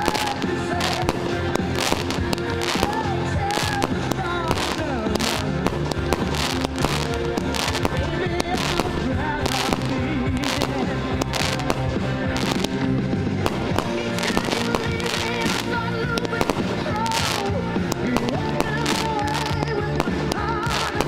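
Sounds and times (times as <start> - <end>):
fireworks bangs and crackles: 0.0 - 21.0
loud music with a beat: 0.0 - 21.0.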